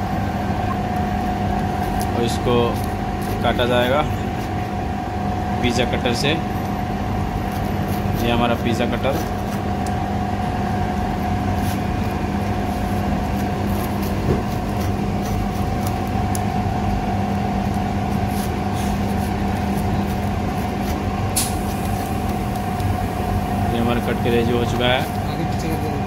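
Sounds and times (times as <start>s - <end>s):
kitchen equipment humming: 0.0s - 26.0s.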